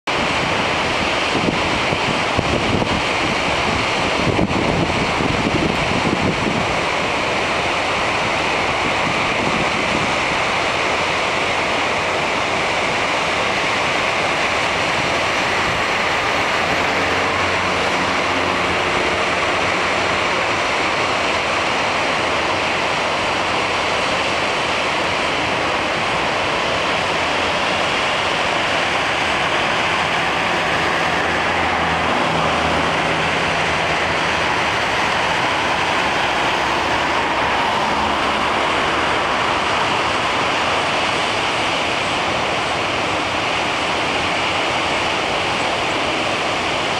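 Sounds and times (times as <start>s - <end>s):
water cascading down spillway: 0.1s - 46.9s.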